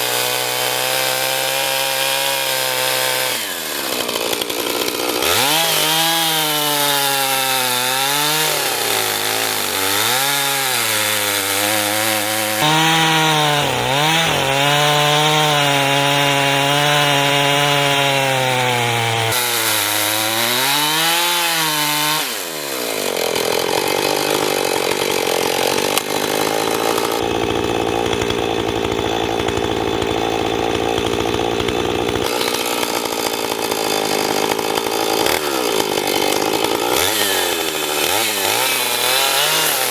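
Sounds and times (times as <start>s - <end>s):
chainsaw ripping through log: 0.0s - 39.9s.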